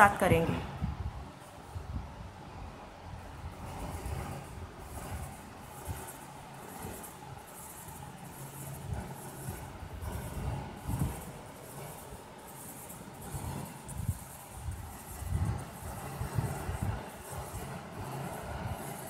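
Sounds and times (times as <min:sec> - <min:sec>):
low steady rumble: 0:00.0 - 0:19.0
felt-tip pen rubbing on paper: 0:03.3 - 0:19.0.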